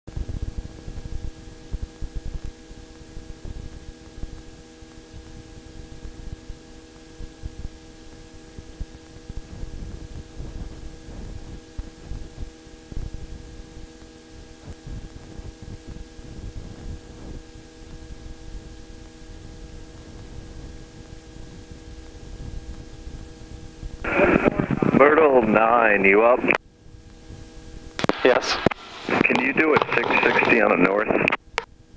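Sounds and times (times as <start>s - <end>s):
electrical hum: 0.1s - 31.9s
low crackling rumble: 0.1s - 31.9s.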